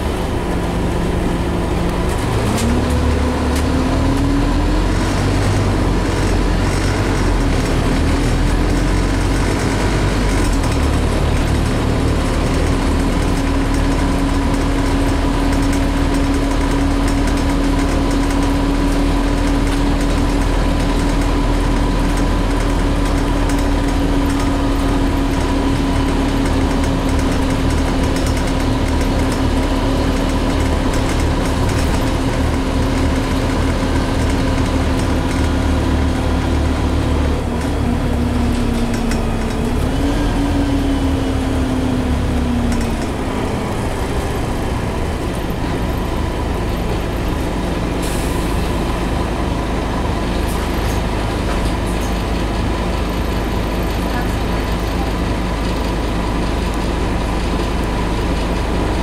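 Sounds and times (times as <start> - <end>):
bus engine running: 0.0 - 59.0
road noise: 0.0 - 59.0.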